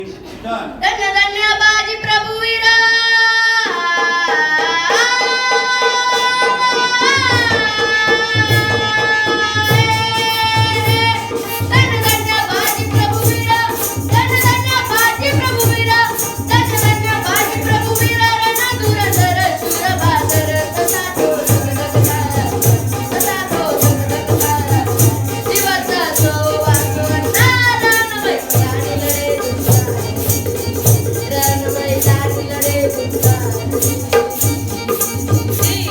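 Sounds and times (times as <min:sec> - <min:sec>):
boy singing a ballad: 0:00.8 - 0:35.9
jingling percussion: 0:03.6 - 0:35.9
steady drum beat: 0:04.8 - 0:35.9.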